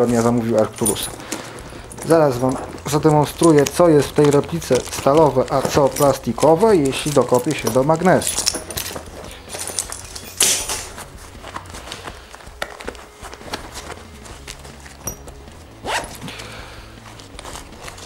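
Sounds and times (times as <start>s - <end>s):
fabric rustling: 0.0s - 18.0s
small items clicking together: 0.0s - 18.0s.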